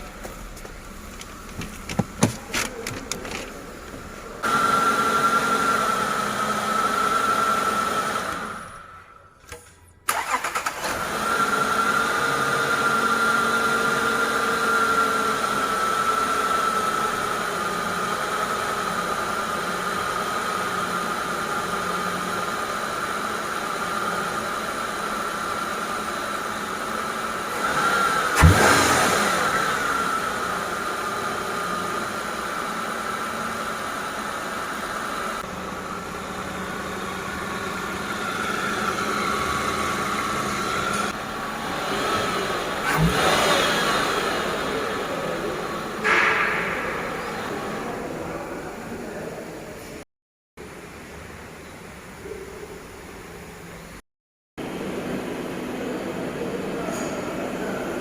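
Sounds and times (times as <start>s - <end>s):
car engine cranking and starting: 0.0s - 49.0s
car engine idling: 0.0s - 49.9s.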